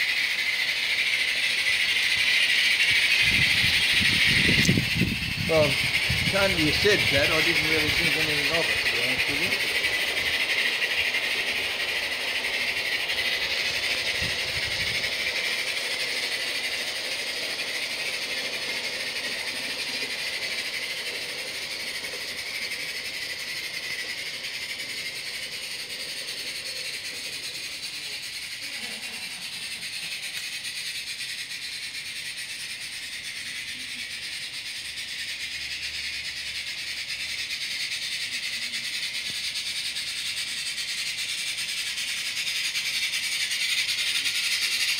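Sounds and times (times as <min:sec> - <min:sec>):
model steam locomotive hissing: 0:00.0 - 0:44.9.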